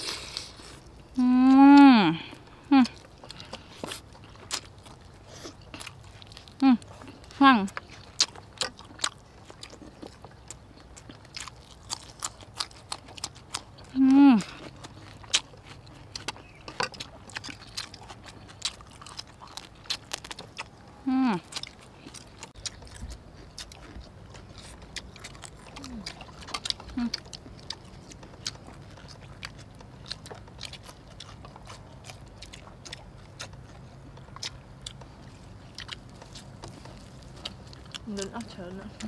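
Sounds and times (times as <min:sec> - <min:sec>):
biting and chewing: 0:00.0 - 0:39.0.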